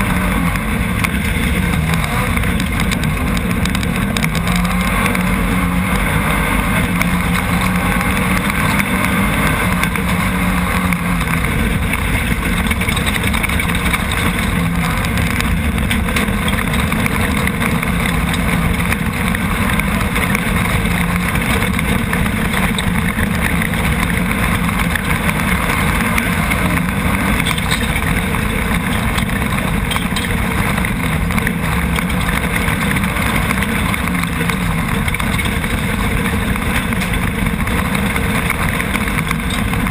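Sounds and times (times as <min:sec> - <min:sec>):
buggy engine running hard: 0:00.0 - 0:39.9.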